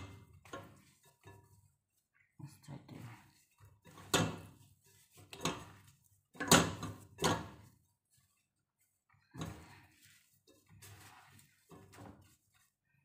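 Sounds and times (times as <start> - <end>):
hands mixing chicken in bowl: 0.0 - 13.0.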